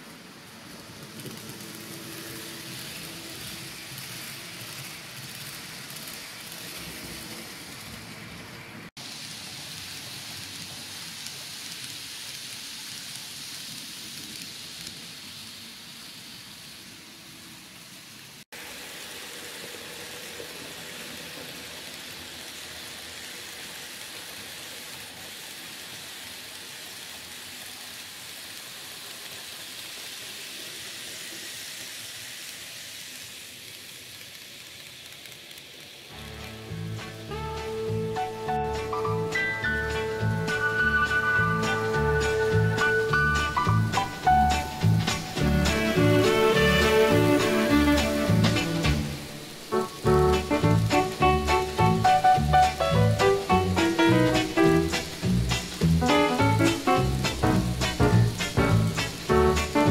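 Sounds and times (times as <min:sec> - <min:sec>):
wheels rolling on rails: 0:00.0 - 0:59.9.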